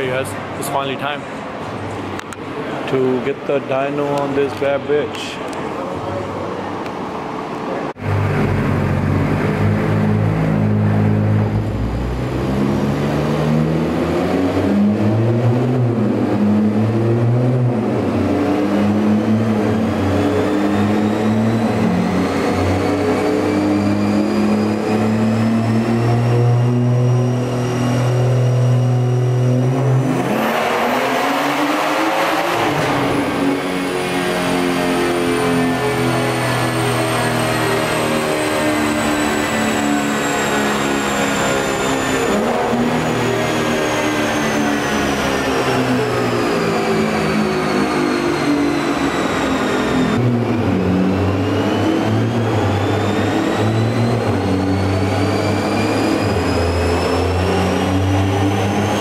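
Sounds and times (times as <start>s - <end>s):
rising whine: 0.0s - 59.0s
rush of noise: 0.0s - 59.0s
car engine revving on dynamometer: 7.0s - 59.0s.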